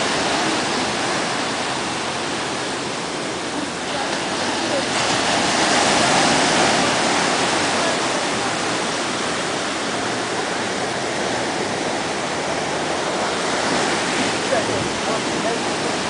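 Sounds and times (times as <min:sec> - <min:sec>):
surf breaking on beach: 0:00.0 - 0:16.0.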